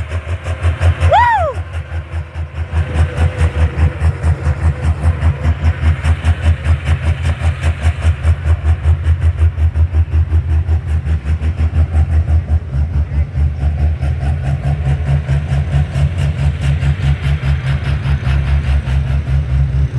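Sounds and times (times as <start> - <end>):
large engine idling: 0.0 - 19.9.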